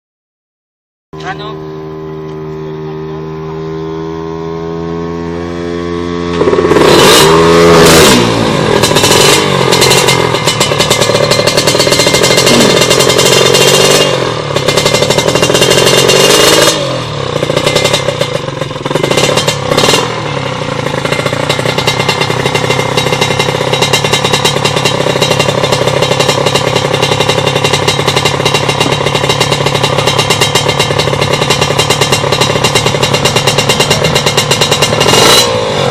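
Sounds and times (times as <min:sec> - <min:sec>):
two-stroke motorcycle engine revving: 0:01.2 - 0:35.9.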